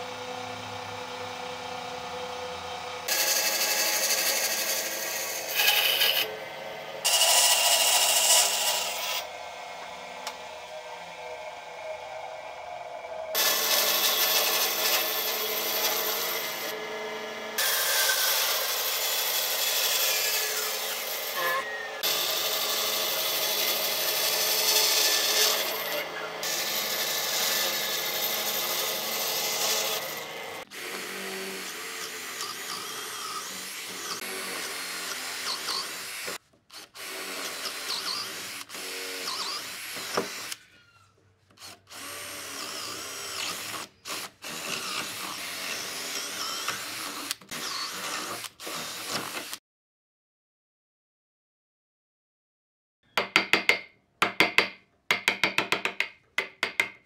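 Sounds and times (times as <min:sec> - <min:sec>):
electric drill boring into wood: 0:00.0 - 0:06.3, 0:07.0 - 0:10.8, 0:11.6 - 0:40.7, 0:41.5 - 0:49.6
bandsaw cutting wood: 0:00.0 - 0:40.6, 0:41.5 - 0:49.6.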